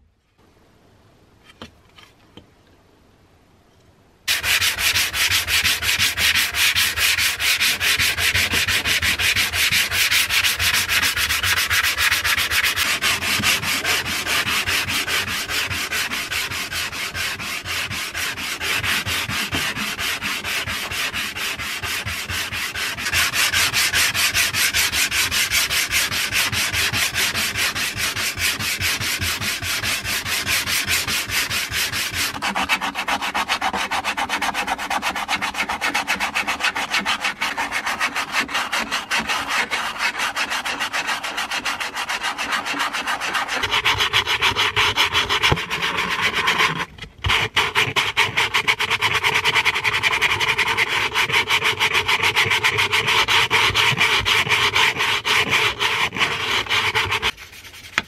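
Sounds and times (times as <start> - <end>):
sandpaper rubbing on wood: 4.3 - 58.0.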